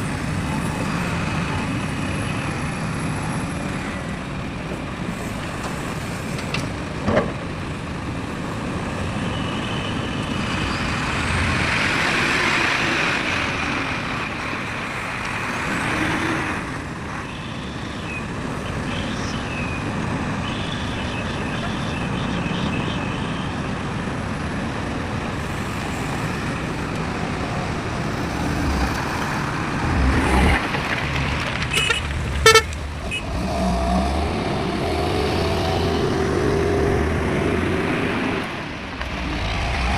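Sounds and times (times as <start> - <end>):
road traffic: 0.0 - 39.9
truck engines and heavy machinery: 0.0 - 39.9.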